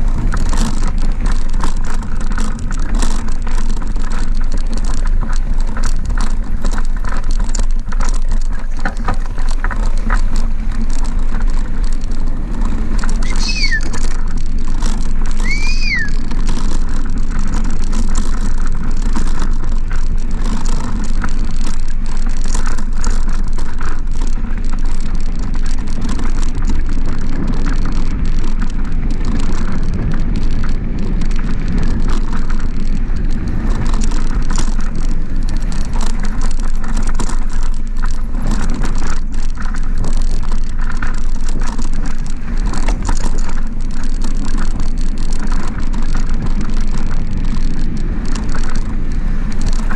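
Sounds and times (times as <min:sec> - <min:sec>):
bike rattles and clicks: 0:00.0 - 0:49.9
wind rumble on microphone: 0:00.0 - 0:49.9.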